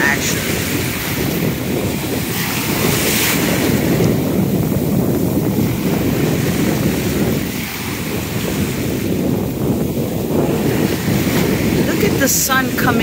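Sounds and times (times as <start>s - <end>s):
ocean waves breaking: 0.0s - 13.0s
wind rumbling on microphone: 0.0s - 13.0s.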